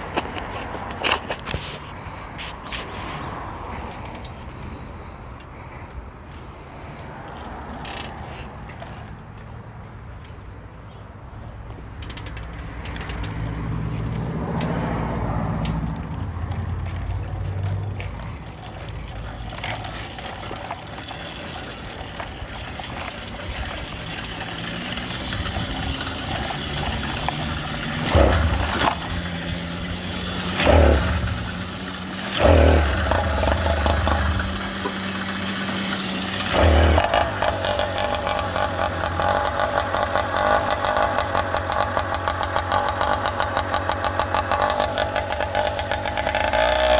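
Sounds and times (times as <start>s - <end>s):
small engine sputtering: 0.0s - 9.1s, 12.0s - 46.9s.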